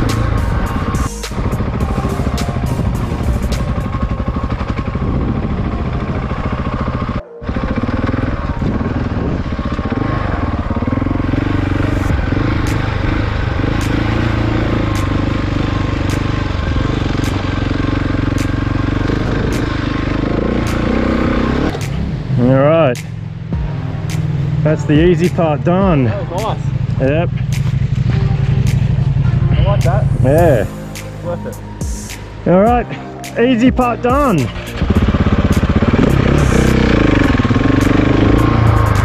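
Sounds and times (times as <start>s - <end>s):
motorcycle engine revving: 0.0s - 30.9s, 31.8s - 39.0s.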